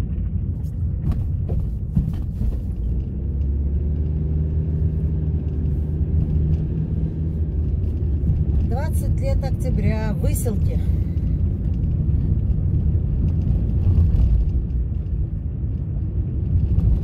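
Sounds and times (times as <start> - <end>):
car cabin road rumble: 0.0 - 17.0
engine hum: 0.0 - 17.0.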